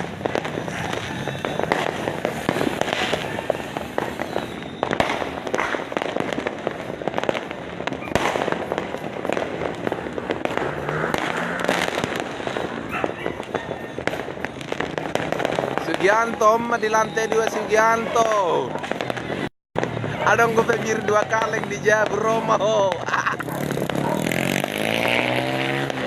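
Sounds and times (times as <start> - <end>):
firecrackers crackling pops: 0.0 - 26.0
loud fireworks bangs: 0.0 - 26.0.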